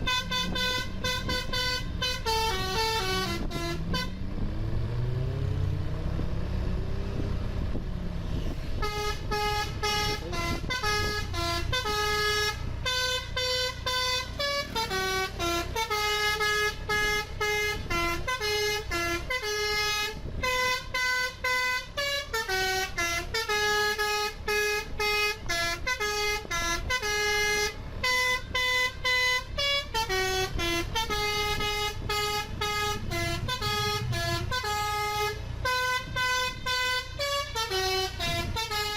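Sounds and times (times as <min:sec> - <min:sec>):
multi-trumpet air horn tune: 0:00.0 - 0:04.2, 0:08.8 - 0:38.9
bus engine: 0:00.0 - 0:38.9.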